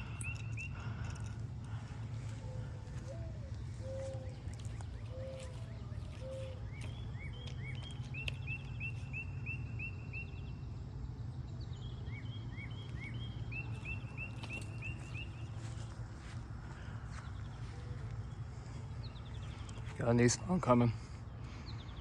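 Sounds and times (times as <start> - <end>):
birds cooing: 0.0 - 10.7, 11.3 - 22.0
low background rumble: 0.0 - 22.0.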